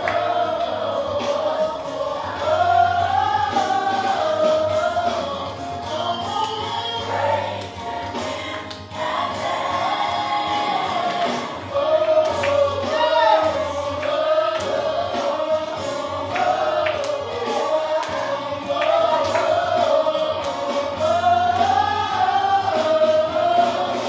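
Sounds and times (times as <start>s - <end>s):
choir singing gospel music: 0.0s - 24.0s.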